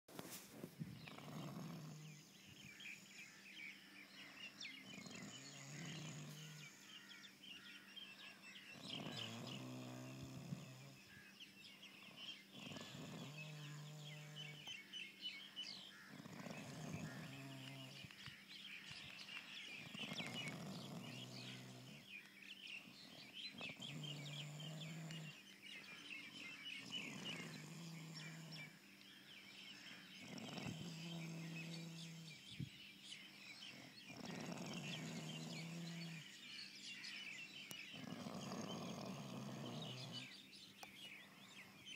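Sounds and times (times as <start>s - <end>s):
low buzzing snore: 0.8s - 41.9s.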